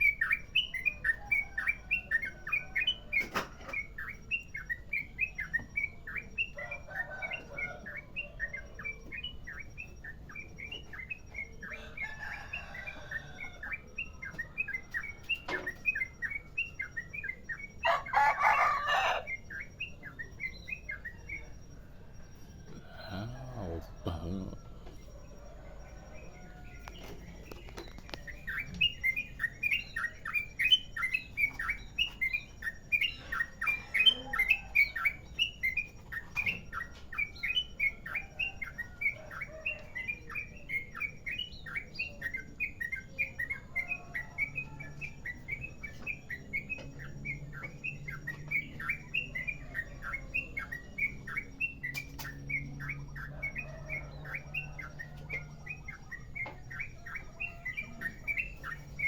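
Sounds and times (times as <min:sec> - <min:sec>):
bird singing rapid chattering notes: 0:00.0 - 0:59.0.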